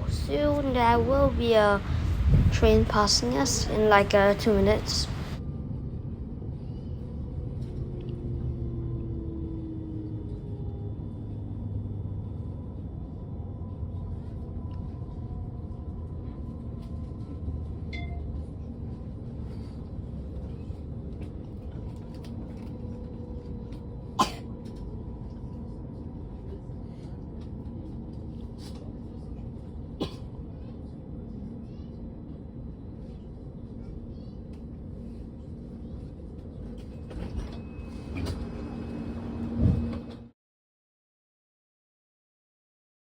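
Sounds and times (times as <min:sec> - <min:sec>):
train rumble inside carriage: 0:00.0 - 0:40.3.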